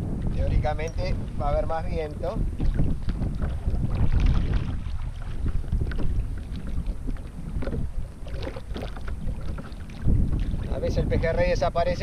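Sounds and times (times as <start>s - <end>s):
water splashing against kayak hull: 0.0s - 12.0s
wind rumbling on microphone: 0.0s - 12.0s.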